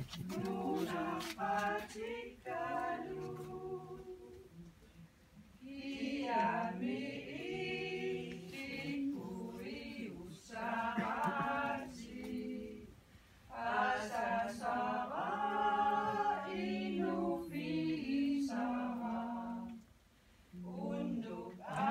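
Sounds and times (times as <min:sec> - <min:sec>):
women singing a cappella: 0:00.0 - 0:21.9.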